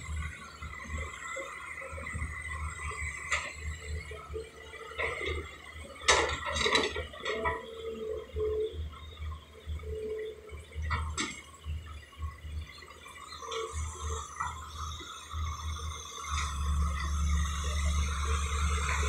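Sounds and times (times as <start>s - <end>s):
excavator engine rumbling: 0.0s - 19.0s.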